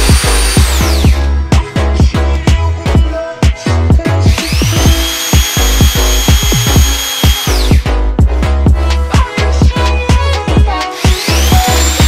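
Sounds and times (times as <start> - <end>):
electronic music with pounding beat: 0.0 - 12.0.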